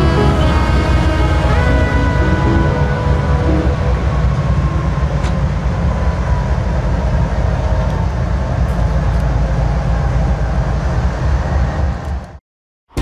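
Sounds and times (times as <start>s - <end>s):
rail noise: 0.0s - 12.4s
train rumbling past: 0.0s - 12.4s.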